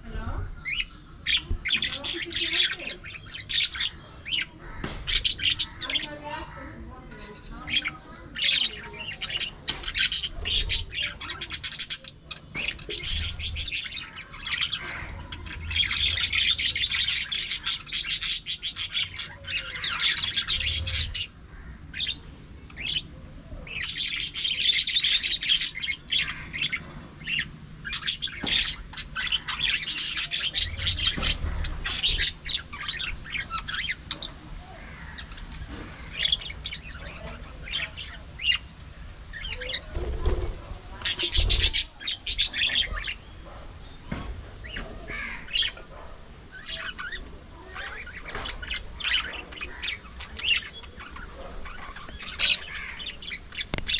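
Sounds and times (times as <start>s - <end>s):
budgerigars chattering and chirping: 0.1s - 53.9s.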